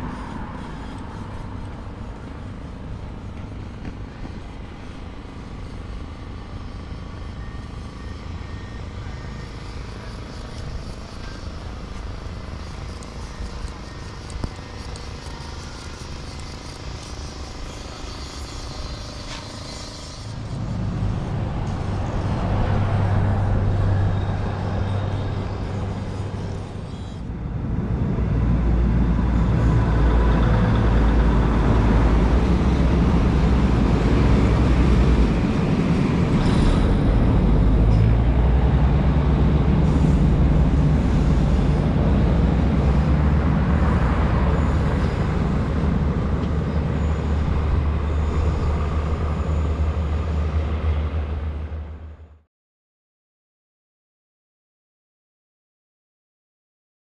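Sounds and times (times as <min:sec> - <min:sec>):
diesel engine droning: 0:00.0 - 0:52.4.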